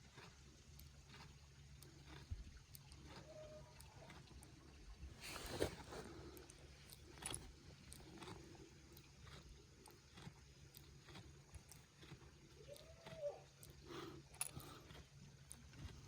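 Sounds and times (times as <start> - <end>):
goat chewing: 0.0 - 16.0.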